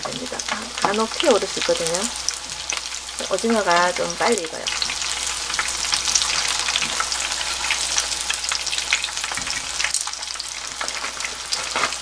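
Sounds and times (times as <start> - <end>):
squid sizzling in frying oil: 0.0 - 12.0.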